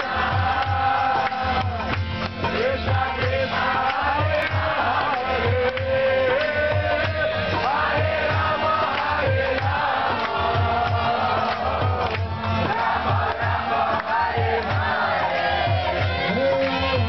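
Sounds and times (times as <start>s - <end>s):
hand drum beating: 0.0s - 17.0s.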